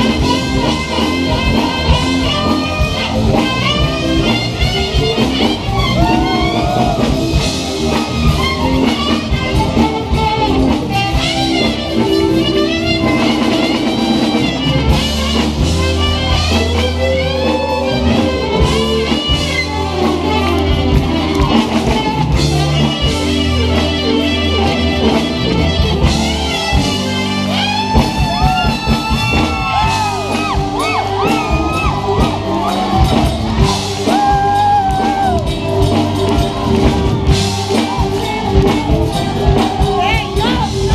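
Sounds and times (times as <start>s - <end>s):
bass line: 0.0s - 40.9s
drum kit: 0.0s - 40.9s
electric guitar: 0.0s - 40.9s.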